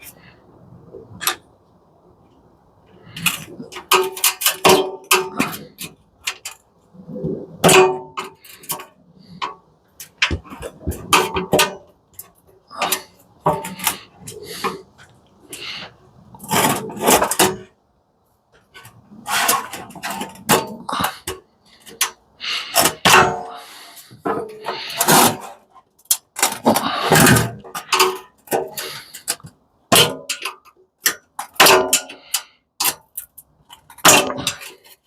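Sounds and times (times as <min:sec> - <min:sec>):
metal parts clanking and rattling: 0:03.1 - 0:06.6, 0:07.6 - 0:17.7, 0:18.7 - 0:35.0.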